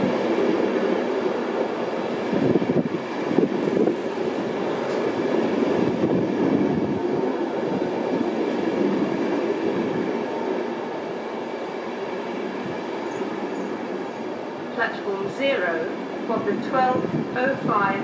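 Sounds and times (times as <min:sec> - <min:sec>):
train wheels running on track: 0:00.0 - 0:18.0.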